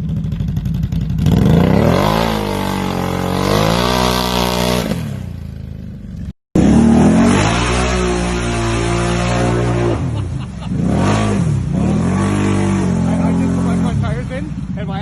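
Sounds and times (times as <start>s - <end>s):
off-road vehicle engine revving: 1.1s - 5.5s, 6.2s - 15.0s.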